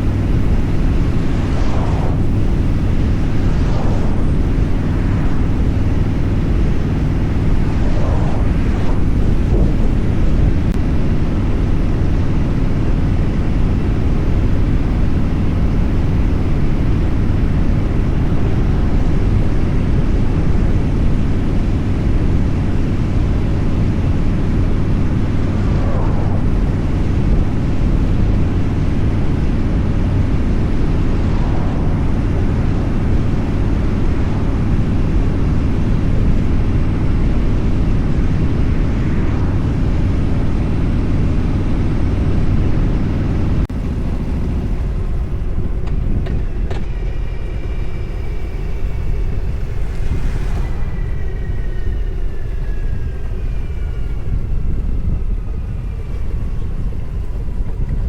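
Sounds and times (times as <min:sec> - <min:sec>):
wind rushing: 0:00.0 - 0:44.0, 0:44.9 - 0:57.0
vehicle engine drone: 0:00.0 - 0:58.0.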